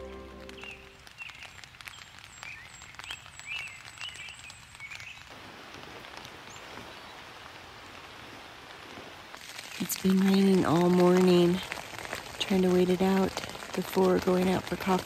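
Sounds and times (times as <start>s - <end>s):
rain pattering on a tent: 0.0s - 15.0s
steady rain in the open: 0.0s - 15.0s.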